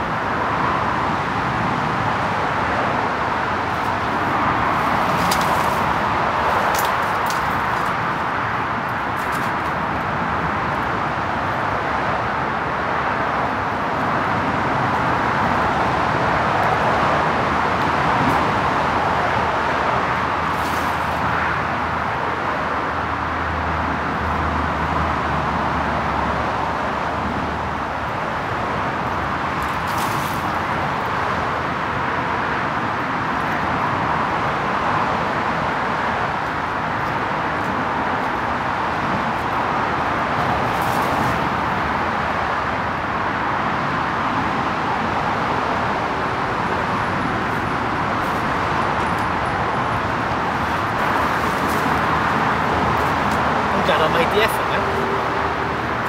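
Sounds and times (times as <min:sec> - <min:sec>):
rushing outdoor background noise: 0:00.0 - 0:56.0.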